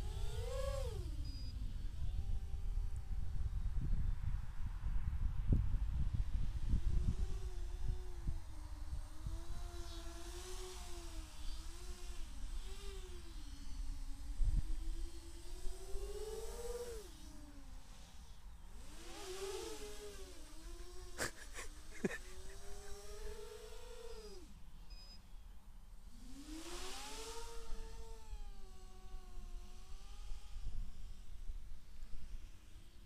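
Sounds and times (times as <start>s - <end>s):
quadcopter propellers whining: 0.0s - 3.6s, 6.5s - 33.0s.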